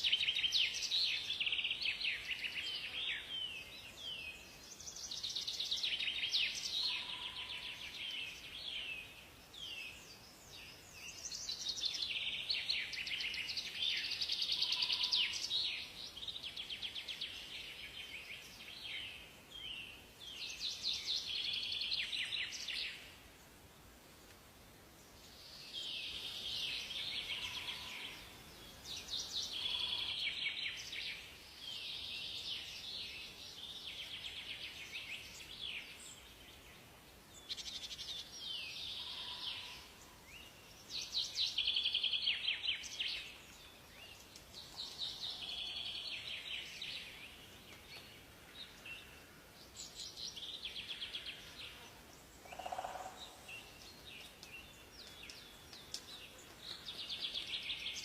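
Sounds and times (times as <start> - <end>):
songbirds singing trilled phrases: 0.0 - 23.2, 25.0 - 58.0
faint background hiss: 0.0 - 58.0.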